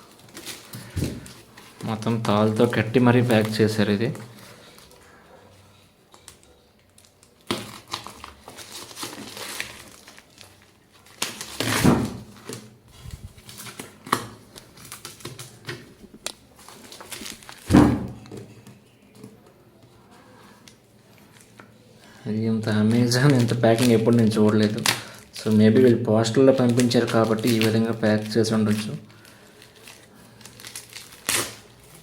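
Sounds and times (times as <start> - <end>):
wrapping rustling and tearing: 0.0 - 18.3, 20.4 - 32.0.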